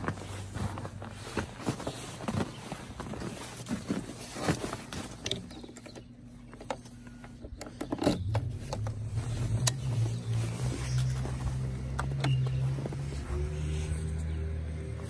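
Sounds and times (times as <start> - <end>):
handling clicks and scrapes: 0.0 - 15.0.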